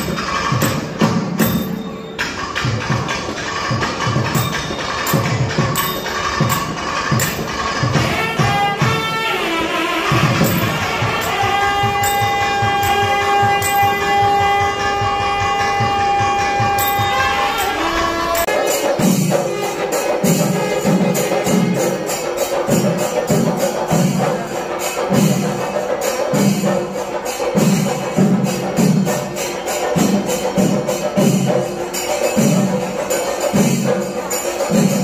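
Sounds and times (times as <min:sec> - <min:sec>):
small hand cymbals clashing: 0:00.0 - 0:35.0.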